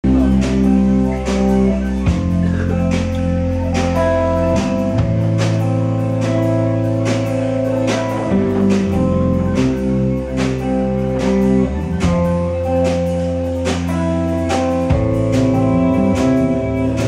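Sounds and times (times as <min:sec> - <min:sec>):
drum and cymbal hits: 0:00.0 - 0:17.0
layered guitar tones: 0:00.0 - 0:17.0
low bass notes: 0:00.0 - 0:17.0.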